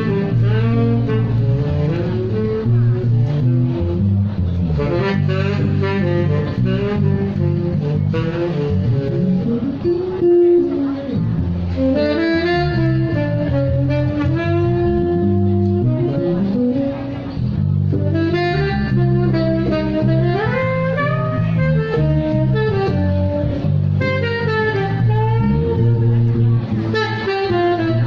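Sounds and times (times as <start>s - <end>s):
jazz saxophone melody: 0.0s - 28.0s
walking bass line: 0.0s - 28.0s.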